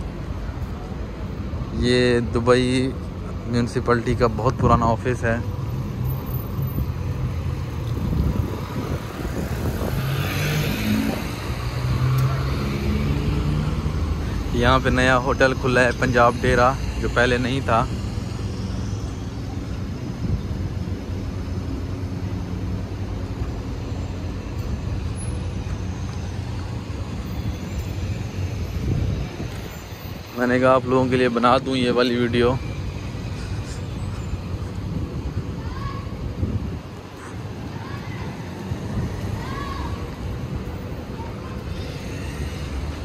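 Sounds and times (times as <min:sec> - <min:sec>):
car engines rumbling: 0:00.0 - 0:43.0.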